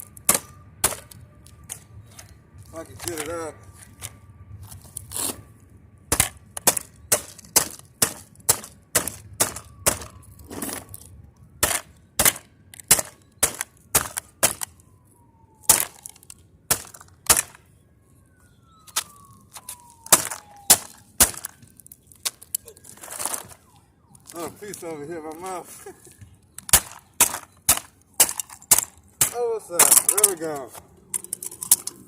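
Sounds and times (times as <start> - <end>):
faint siren: 0.0 - 32.0.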